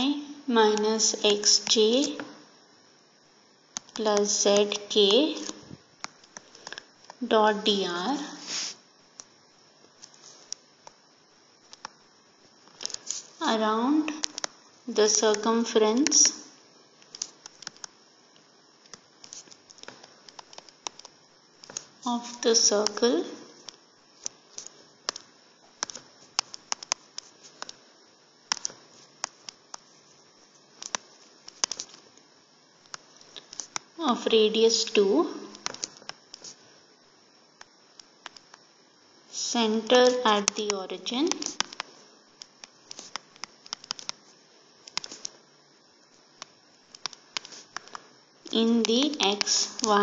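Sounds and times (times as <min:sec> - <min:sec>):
faint room hiss: 0:00.0 - 0:50.0.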